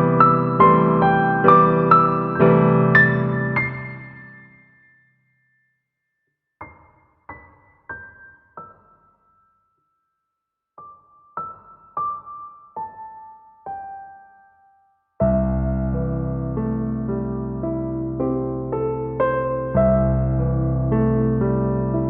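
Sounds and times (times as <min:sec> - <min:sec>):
soft piano music: 0:00.0 - 0:05.1, 0:06.6 - 0:09.8, 0:10.7 - 0:22.0.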